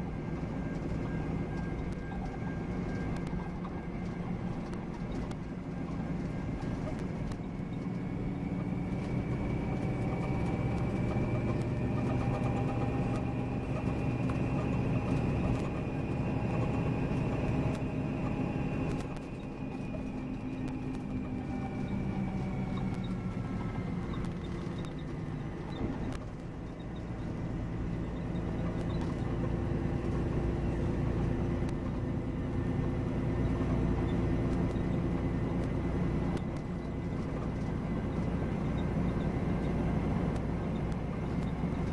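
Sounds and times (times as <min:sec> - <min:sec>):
coach engine running: 0:00.0 - 0:41.9.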